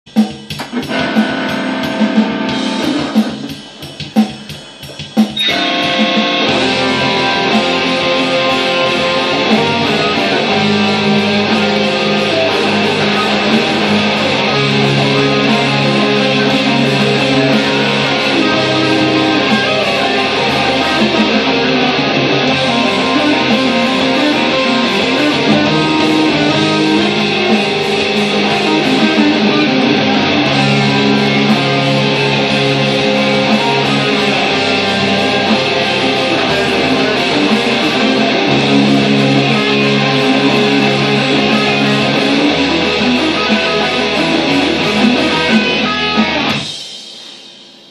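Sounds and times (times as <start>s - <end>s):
rock band music: 0.1s - 47.0s
electric guitar lead line: 0.2s - 46.8s.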